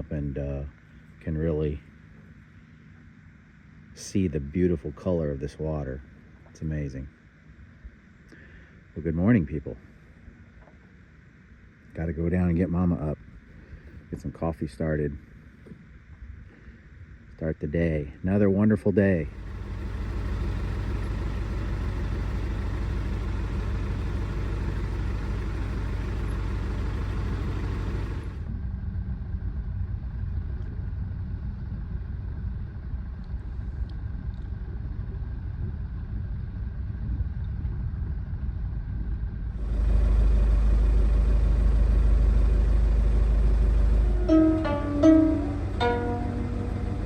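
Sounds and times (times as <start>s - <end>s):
faint hum: 0.0s - 37.7s, 38.4s - 47.0s
low engine rumble: 0.0s - 47.0s.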